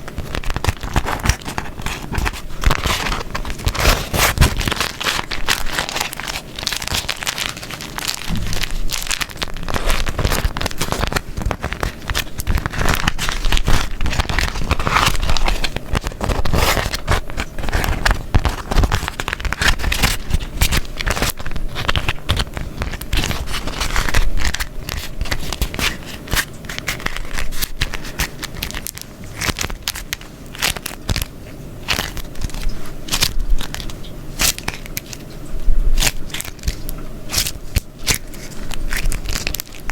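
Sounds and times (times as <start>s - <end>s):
wax paper crumpling: 0.0s - 39.9s.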